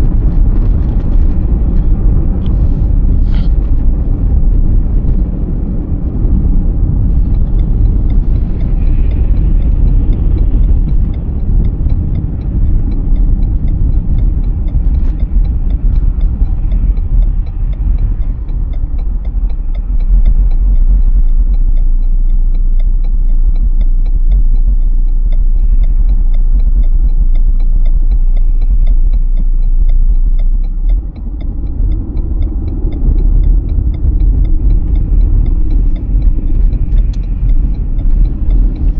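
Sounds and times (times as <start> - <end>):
road and engine rumble: 0.0 - 38.9.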